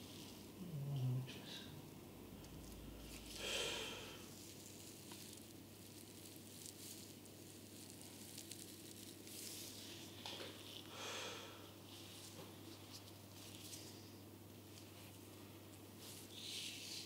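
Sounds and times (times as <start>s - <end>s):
faint hiss: 0.0s - 17.0s
steady low hum: 0.0s - 17.0s.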